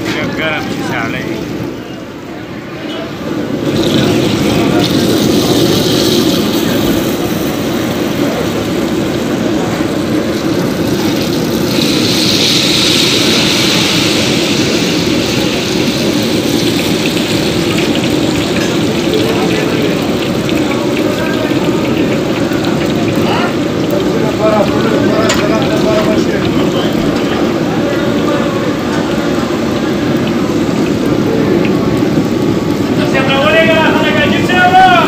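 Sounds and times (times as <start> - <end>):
batter sizzling in hot oil: 3.2 - 35.0.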